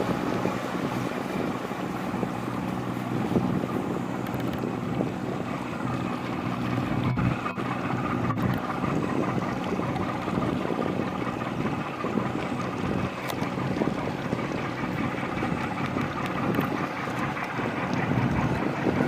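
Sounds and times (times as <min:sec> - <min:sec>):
boat diesel engines humming: 0:00.0 - 0:19.0.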